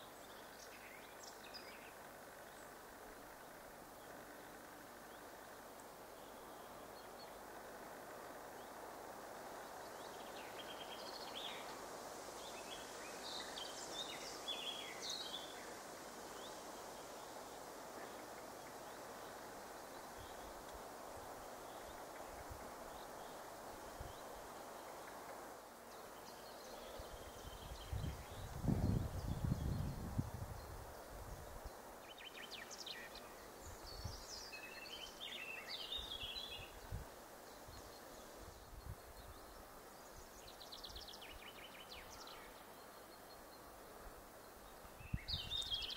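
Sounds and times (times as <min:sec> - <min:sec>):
low rush of background noise: 0:00.0 - 0:45.9.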